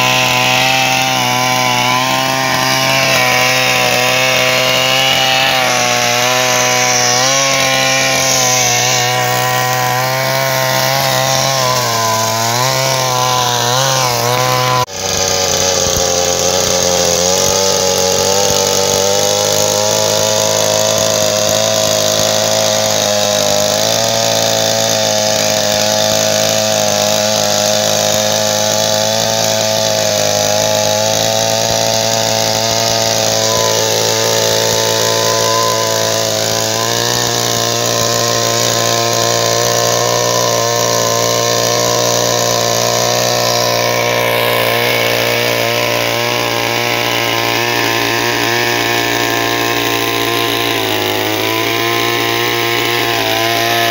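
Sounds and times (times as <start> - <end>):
chainsaw cutting log: 0.0 - 53.9.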